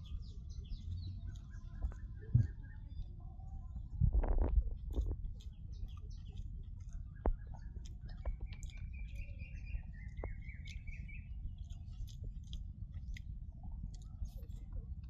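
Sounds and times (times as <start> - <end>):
person chewing: 0.4 - 2.1, 4.3 - 15.0.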